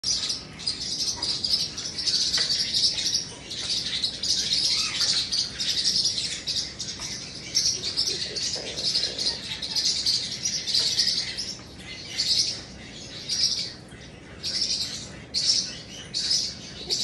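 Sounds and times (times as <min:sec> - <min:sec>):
cockatoo chittering: 0:00.0 - 0:17.0.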